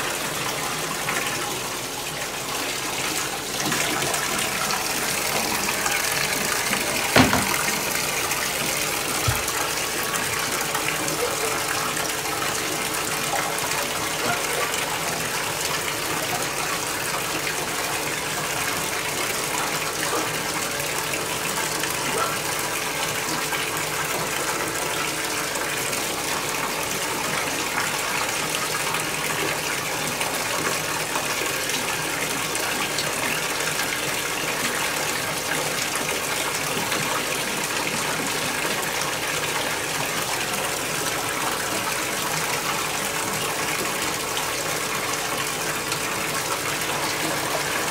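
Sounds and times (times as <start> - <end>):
water running into bathtub: 0.0 - 47.9.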